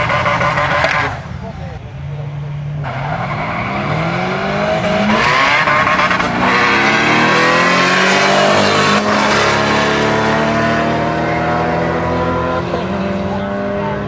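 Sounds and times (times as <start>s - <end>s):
drag cars accelerating hard: 0.0s - 1.5s, 2.7s - 14.0s.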